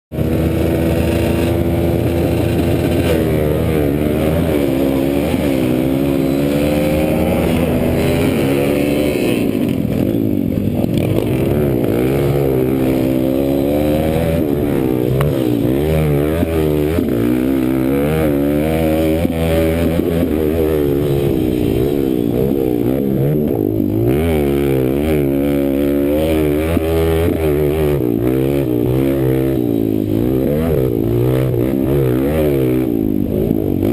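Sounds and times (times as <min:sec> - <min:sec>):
motorcycle engine racing: 0:00.1 - 0:33.9.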